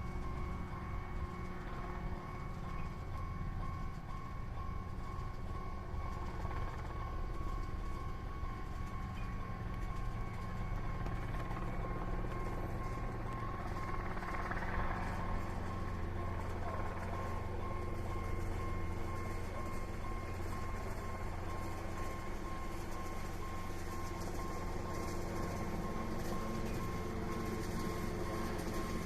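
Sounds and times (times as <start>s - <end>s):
level crossing warning bell: 0.0s - 29.0s.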